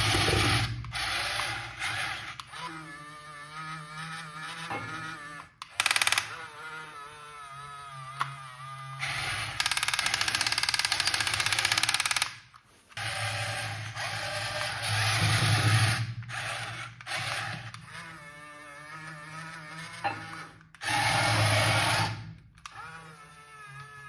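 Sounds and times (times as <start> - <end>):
toy vehicle motor whining: 0.0 - 24.0.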